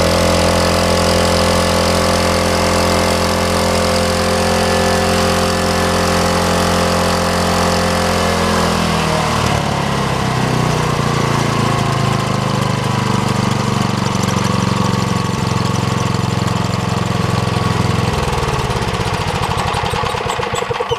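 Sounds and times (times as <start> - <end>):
air compressor running: 0.0 - 20.9.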